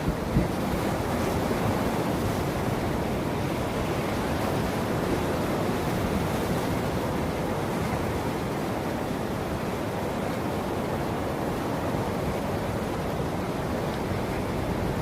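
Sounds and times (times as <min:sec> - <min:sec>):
ocean surf washing ashore: 0:00.0 - 0:15.0.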